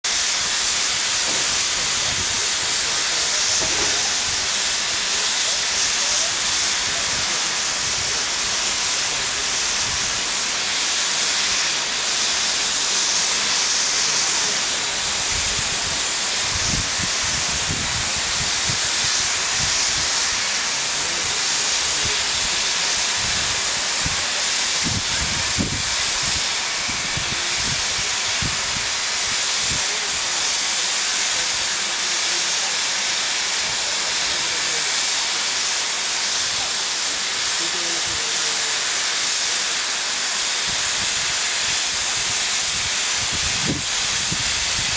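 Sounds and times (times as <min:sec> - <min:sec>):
steam hissing from safety valves: 0:00.0 - 0:44.9.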